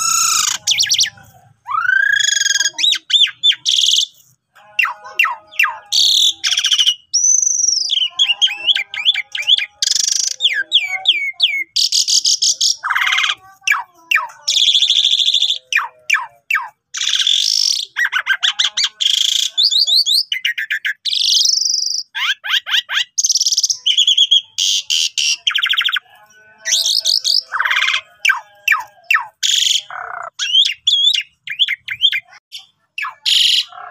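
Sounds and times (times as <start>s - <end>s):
starling singing: 0.0s - 33.9s.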